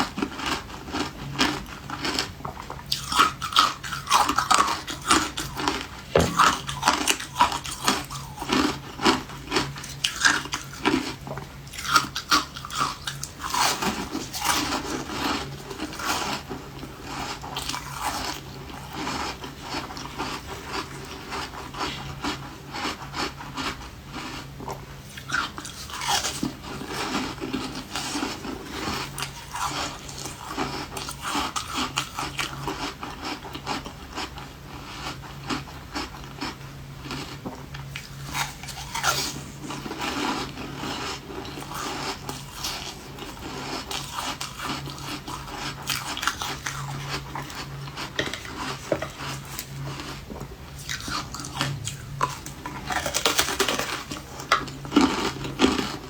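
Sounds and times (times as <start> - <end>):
ice being chewed crunching: 0.0 - 56.0.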